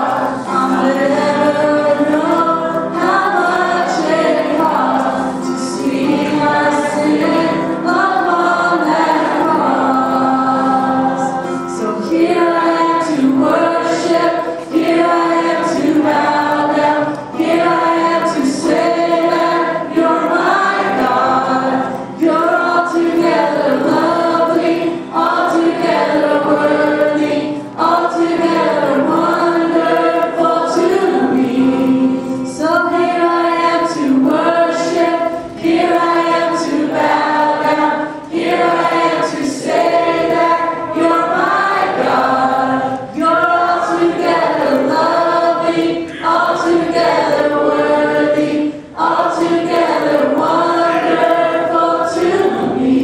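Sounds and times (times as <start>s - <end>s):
group singing: 0.0s - 53.0s
woman singing into microphone: 0.0s - 53.0s.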